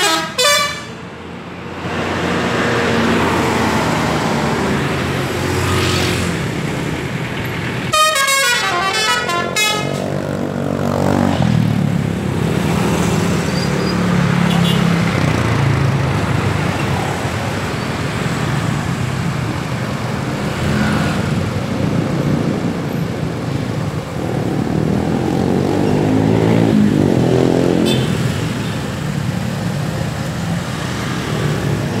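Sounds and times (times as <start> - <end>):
motorcycles and cars passing: 0.0 - 8.1, 9.2 - 32.0.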